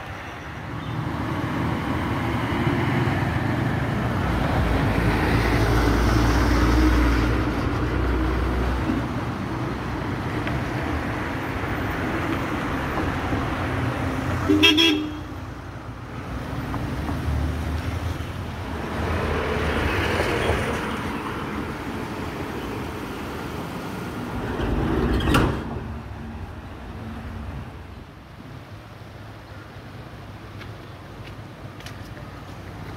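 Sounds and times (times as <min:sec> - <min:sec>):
bus engine rumbling: 0:00.0 - 0:30.6
vehicles passing: 0:00.0 - 0:32.9.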